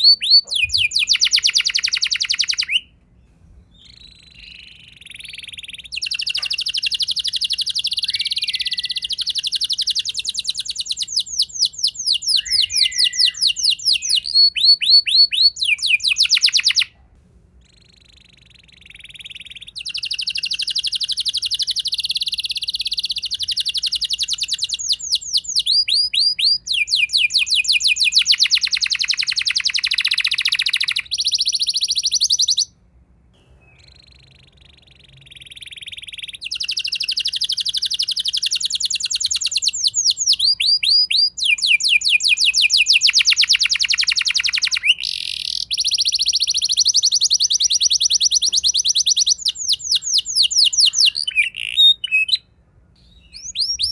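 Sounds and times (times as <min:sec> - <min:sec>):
canary singing trills: 0:00.0 - 0:02.9, 0:03.7 - 0:16.9, 0:17.6 - 0:32.8, 0:33.4 - 0:53.9.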